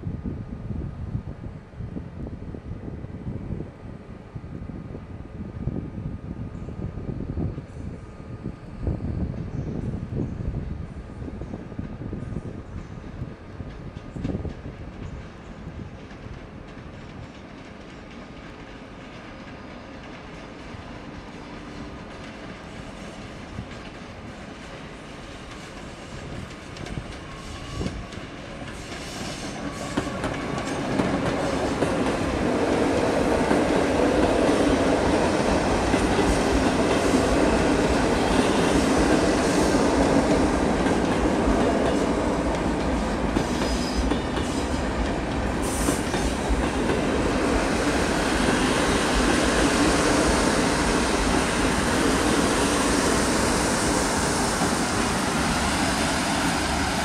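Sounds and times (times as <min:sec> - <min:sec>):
train coaches rumbling past: 0:00.0 - 0:57.0.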